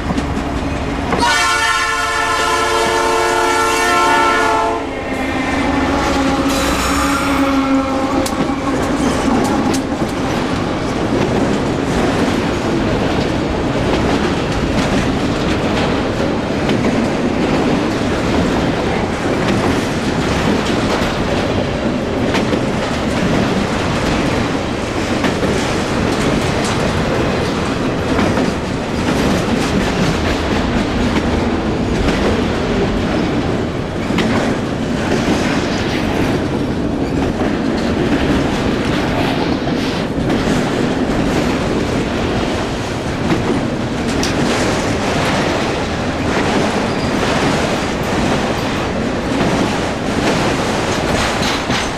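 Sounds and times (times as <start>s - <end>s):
train rolling past: 0.0s - 51.9s
wheels clicking over rail joints: 7.6s - 51.9s.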